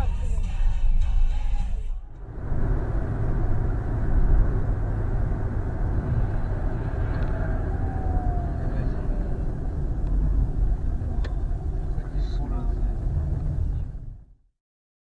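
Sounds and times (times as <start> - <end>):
road and tyre rumble: 0.0 - 14.4.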